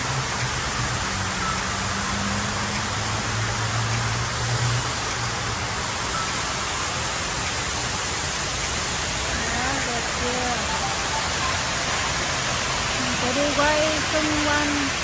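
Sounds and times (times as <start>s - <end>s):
water rushing down fountain: 0.0s - 15.0s.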